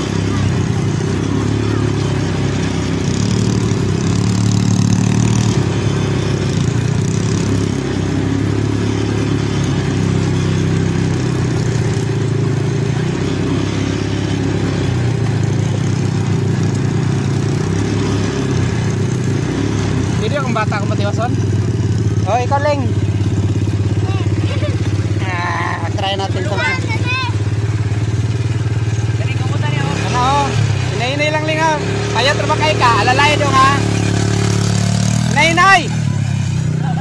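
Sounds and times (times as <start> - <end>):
quad bike engine revving: 0.0 - 37.0.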